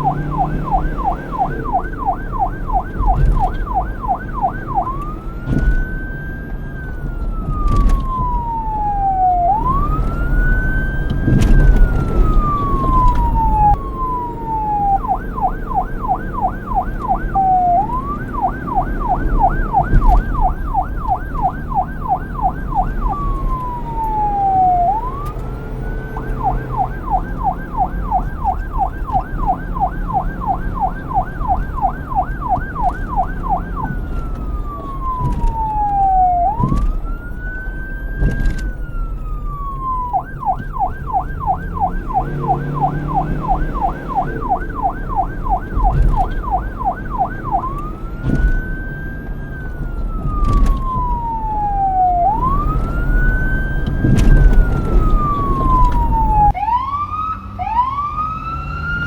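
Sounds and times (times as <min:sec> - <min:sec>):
police siren wailing and yelping: 0:00.0 - 0:59.0.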